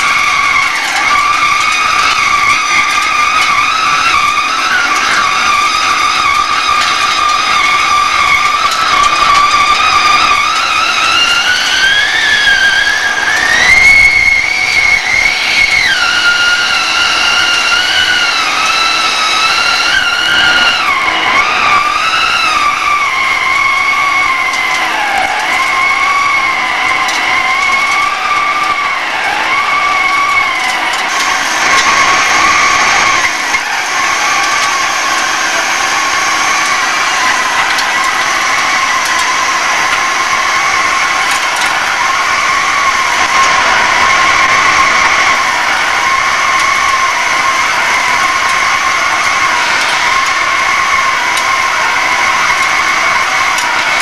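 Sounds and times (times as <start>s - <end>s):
lathe tool squealing on steel wheel: 0.0s - 54.0s.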